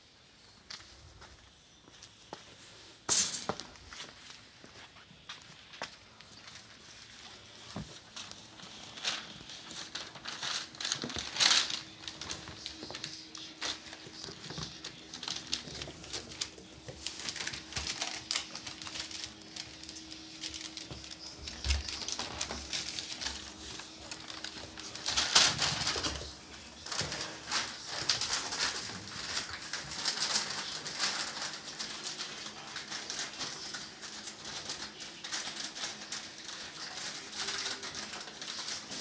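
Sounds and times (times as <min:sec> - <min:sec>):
small paws tapping and scratching: 0:00.7 - 0:39.0
puppies scuffling and playing: 0:03.4 - 0:39.0.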